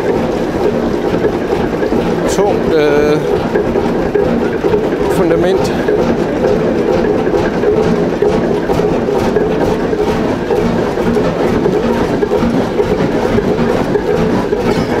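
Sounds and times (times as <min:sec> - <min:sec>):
large engine running steadily: 0:00.0 - 0:15.0.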